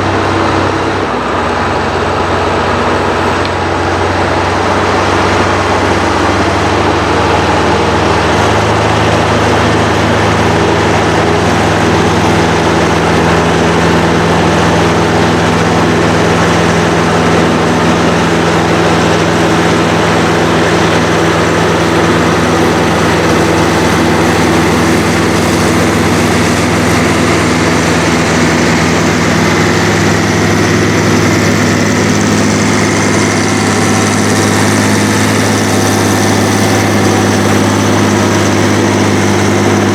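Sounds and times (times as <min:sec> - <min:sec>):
heavy diesel engines under load: 0:00.0 - 0:39.9.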